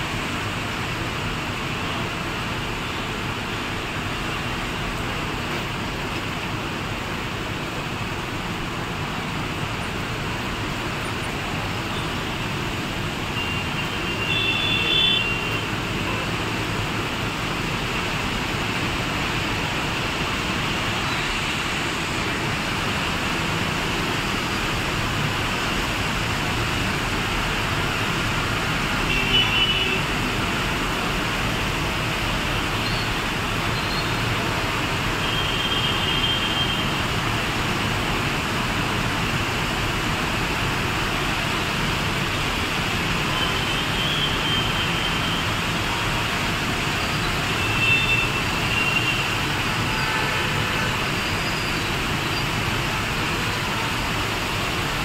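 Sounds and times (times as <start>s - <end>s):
heavy rain falling: 0.0s - 55.0s
traffic on wet road: 0.0s - 55.0s.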